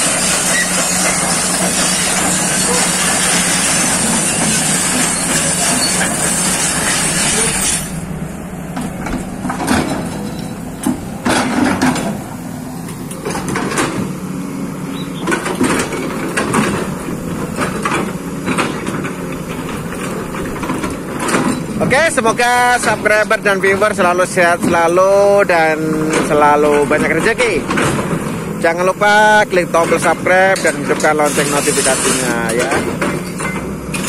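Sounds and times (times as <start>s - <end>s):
excavator engine humming: 0.0s - 34.0s.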